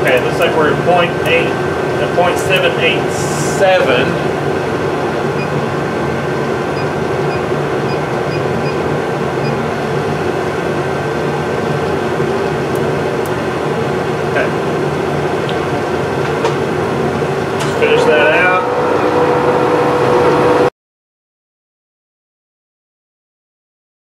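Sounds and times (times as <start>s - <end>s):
lathe motor hum with whine: 0.0s - 20.7s.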